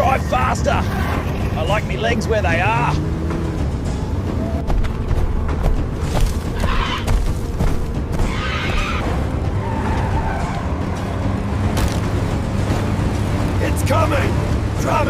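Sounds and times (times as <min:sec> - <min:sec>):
car engine running hard: 0:00.0 - 0:15.0
tyres skidding: 0:00.0 - 0:15.0.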